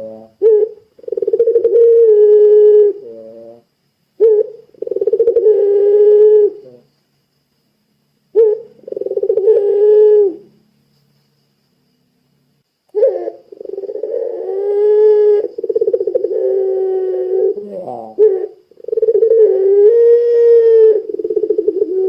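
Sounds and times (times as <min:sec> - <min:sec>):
dove cooing: 0:00.0 - 0:06.9, 0:08.3 - 0:10.6, 0:12.9 - 0:22.0.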